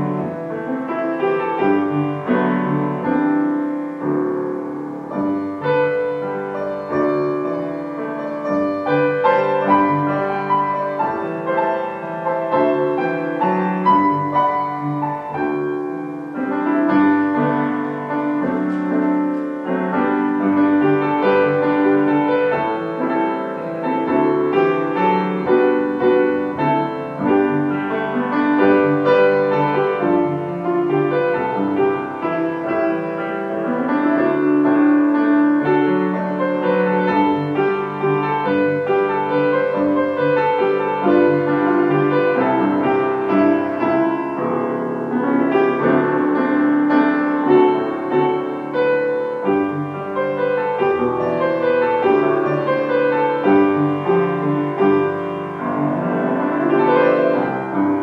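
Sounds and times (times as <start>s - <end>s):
solo grand piano: 0.0s - 58.0s.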